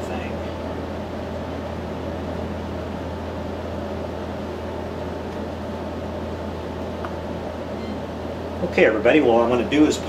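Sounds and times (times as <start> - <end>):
machine room hum: 0.0 - 10.0.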